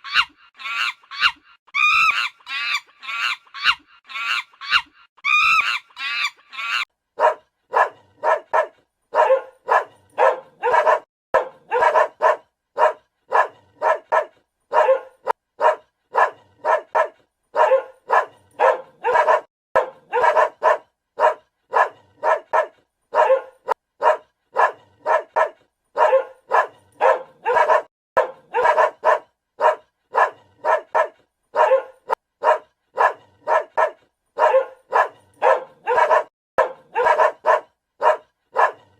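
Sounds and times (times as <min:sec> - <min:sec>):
dog barking: 0:06.6 - 0:38.9.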